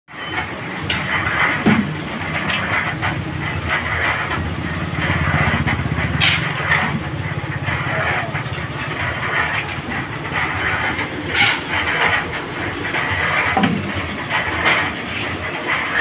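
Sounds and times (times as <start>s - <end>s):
sharp clatter: 0.1s - 16.0s
engine running: 0.2s - 16.0s.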